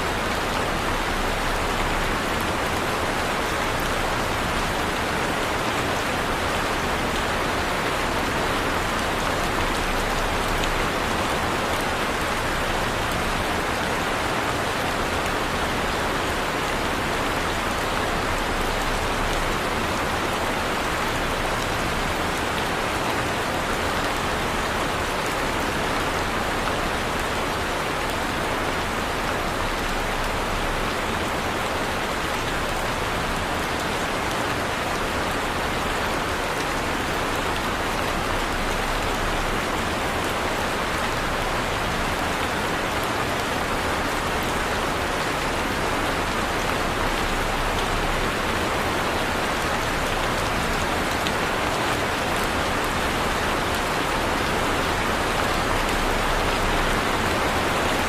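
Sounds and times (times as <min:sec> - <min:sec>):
heavy rain hitting a surface: 0:00.0 - 0:58.0.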